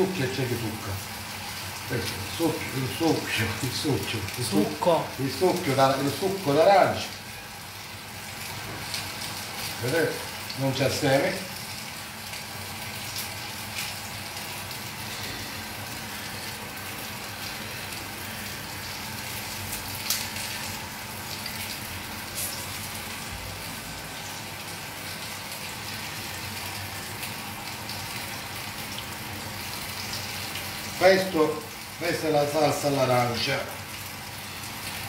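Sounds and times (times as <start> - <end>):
sauce sizzling in a frying pan: 0.0 - 35.0.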